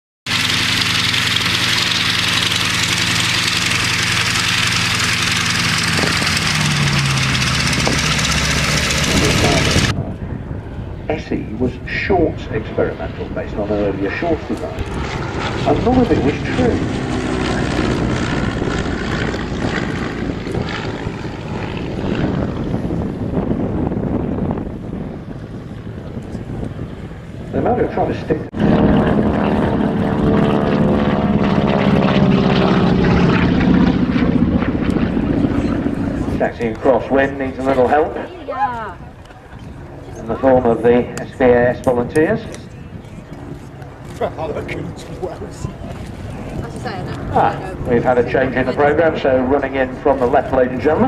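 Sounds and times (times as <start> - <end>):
propeller plane engine running: 0.3 - 51.0.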